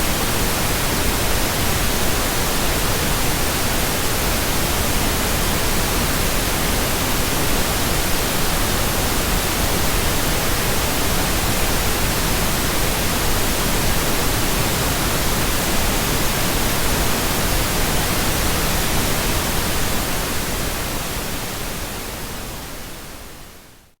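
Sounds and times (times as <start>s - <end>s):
pink noise hiss: 0.0s - 24.0s.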